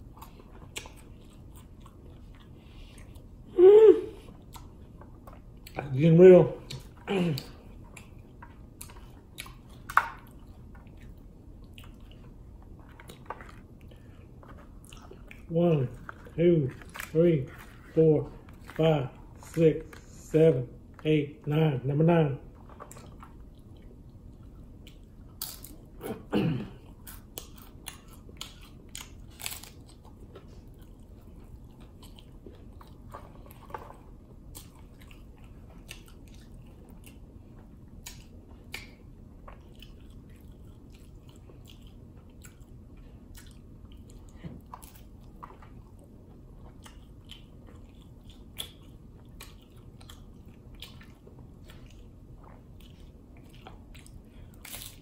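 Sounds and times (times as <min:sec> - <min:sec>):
crunching and chewing taco shell: 0:00.0 - 0:03.5, 0:04.2 - 0:20.2, 0:22.0 - 0:55.0.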